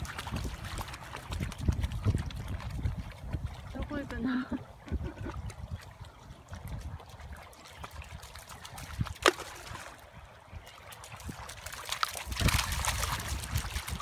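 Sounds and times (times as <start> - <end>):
dog paws splashing in water: 0.0 - 14.0
river water trickling over stones: 0.0 - 14.0.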